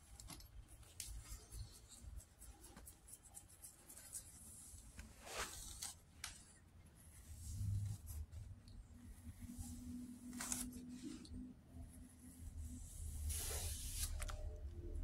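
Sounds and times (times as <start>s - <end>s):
fingers rustling through hair: 0.0s - 15.0s.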